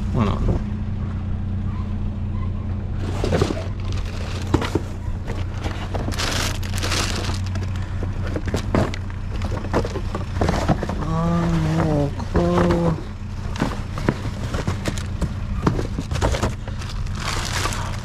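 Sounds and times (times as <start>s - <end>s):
junk knocking and clattering: 2.6s - 18.0s.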